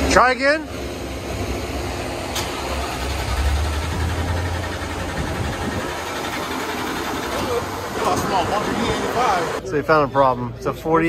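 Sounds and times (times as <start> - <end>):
engine low rumble: 0.0 - 9.6.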